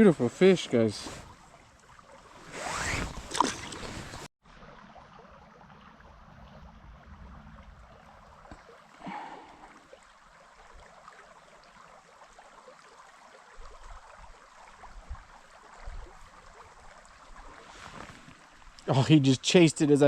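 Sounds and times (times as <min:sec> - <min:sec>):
creek water gurgling: 0:00.0 - 0:20.0.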